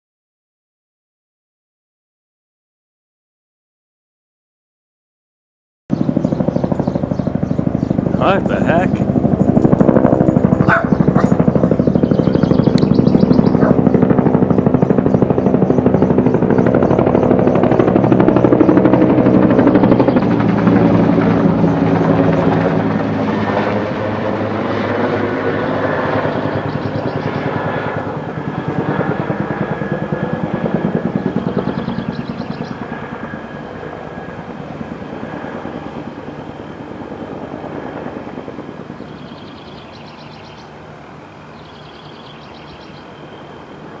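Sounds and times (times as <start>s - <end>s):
helicopter rotors chopping: 5.9s - 44.0s.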